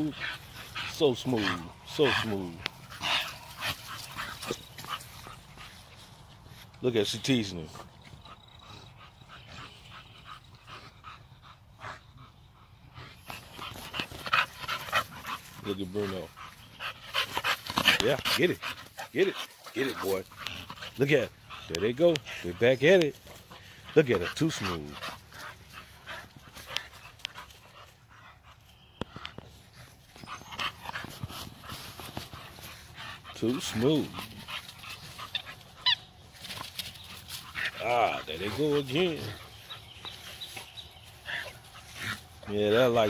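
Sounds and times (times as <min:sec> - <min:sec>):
dogs panting hard: 0:00.0 - 0:43.0.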